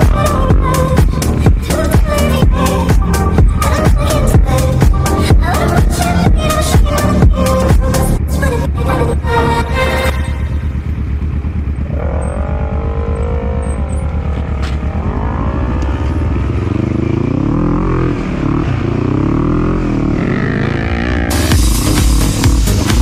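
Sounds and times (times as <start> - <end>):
quad bike engine revving: 0.0 - 23.0.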